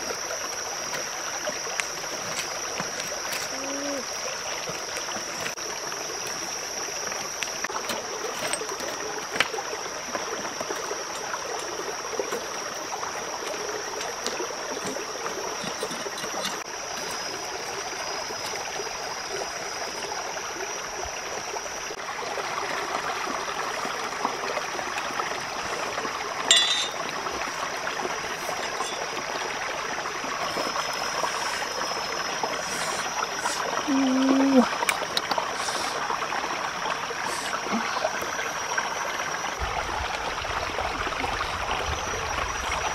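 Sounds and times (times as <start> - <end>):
stream running: 0.0 - 42.9.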